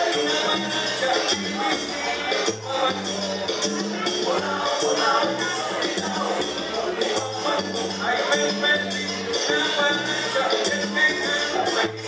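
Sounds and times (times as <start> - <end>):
salsa music: 0.0 - 12.0.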